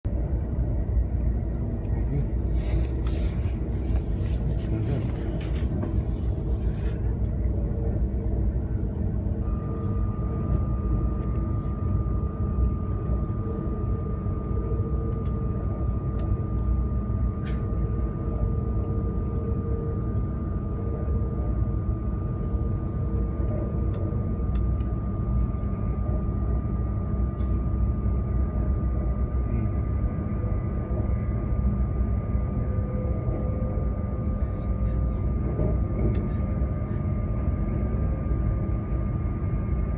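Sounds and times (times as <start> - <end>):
train cabin low rumble: 0.0 - 39.9
thin high whine: 2.0 - 39.9.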